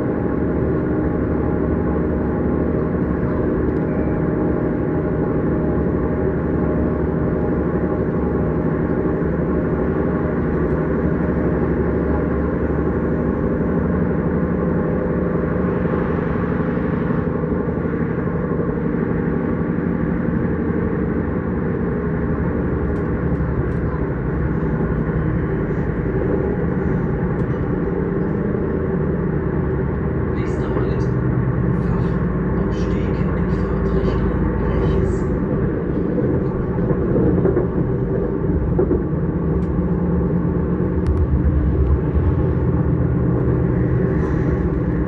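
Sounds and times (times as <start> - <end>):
electric train rumble: 0.0 - 45.0.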